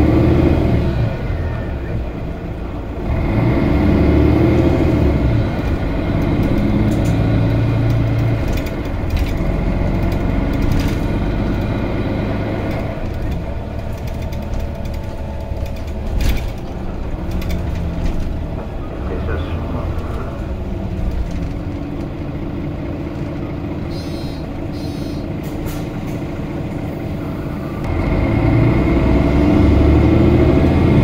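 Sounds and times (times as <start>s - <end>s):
bus diesel engine running: 0.0s - 31.0s.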